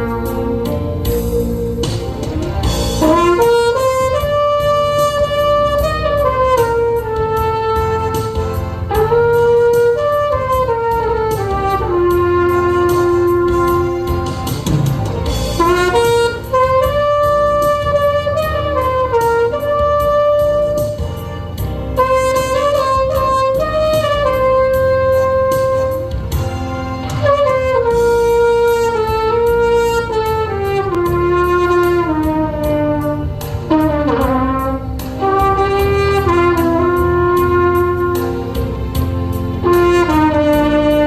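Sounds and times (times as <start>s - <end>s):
backing track music: 0.0s - 41.0s
trumpet melody: 0.0s - 41.0s.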